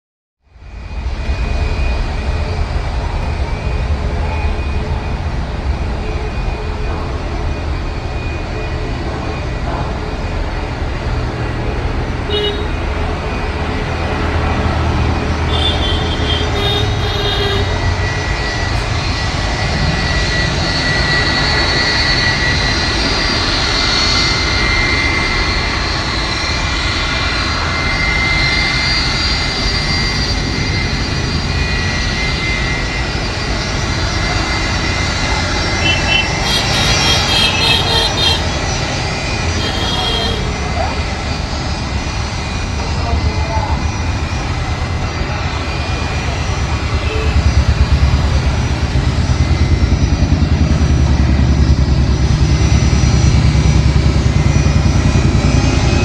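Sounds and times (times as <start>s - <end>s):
jet engines rumbling and whining: 0.4s - 56.0s.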